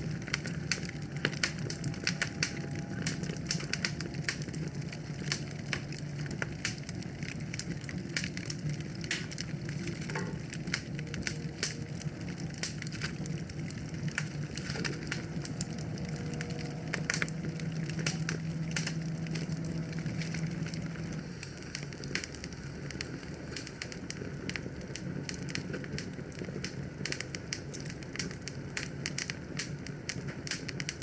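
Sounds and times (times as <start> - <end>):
low steady hum: 0.0 - 31.0
wood fire crackling: 0.0 - 31.0.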